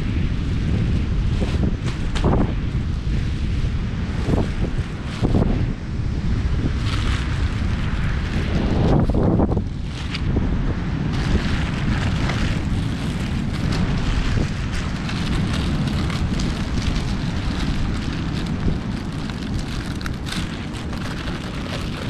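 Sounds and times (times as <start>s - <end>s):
wind buffeting microphone: 0.0s - 22.0s
paraglider fabric rustling: 0.4s - 5.7s, 6.3s - 22.0s.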